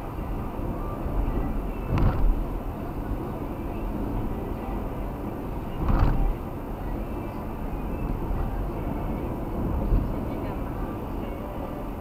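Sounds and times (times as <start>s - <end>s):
car road and tyre noise: 0.0s - 12.0s.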